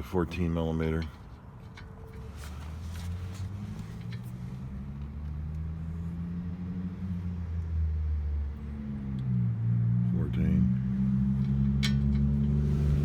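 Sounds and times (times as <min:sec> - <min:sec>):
vehicle engine running: 0:02.1 - 0:13.0.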